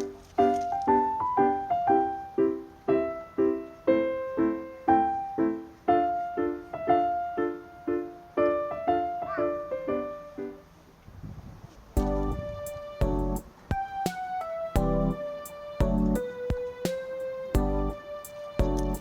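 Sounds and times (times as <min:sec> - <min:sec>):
piano-like keyboard music: 0:00.0 - 0:10.8, 0:12.0 - 0:19.0.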